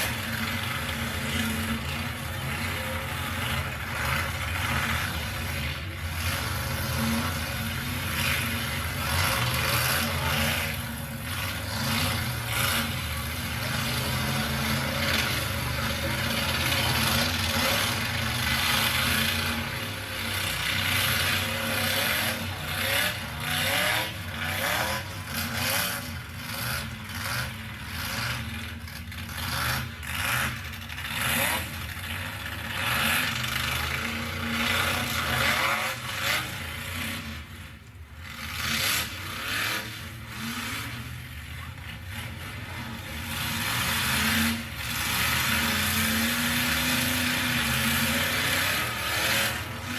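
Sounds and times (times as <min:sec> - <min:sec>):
truck engines revving: 0:00.0 - 0:49.9.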